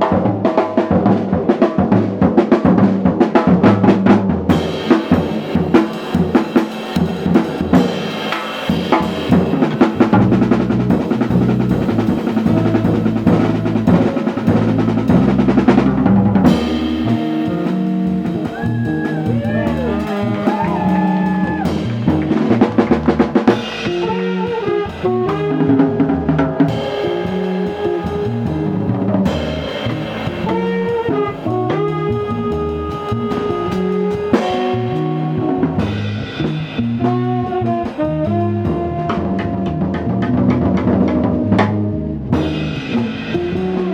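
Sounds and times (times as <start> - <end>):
jazz band playing: 0.0 - 43.9.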